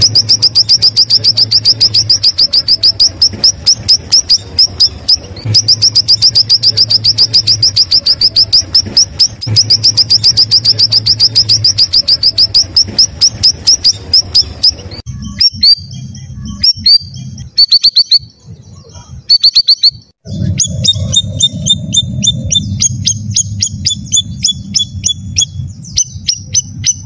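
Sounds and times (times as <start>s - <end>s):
bulbul singing rapid chatter: 0.0s - 27.0s.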